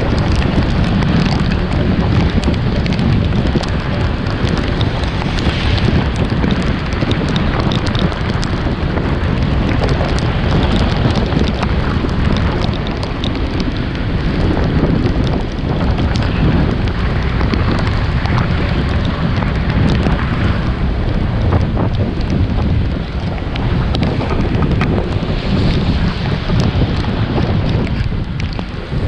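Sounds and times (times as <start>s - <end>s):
low rumble on microphone: 0.0s - 29.0s
steady rain falling: 0.0s - 29.0s.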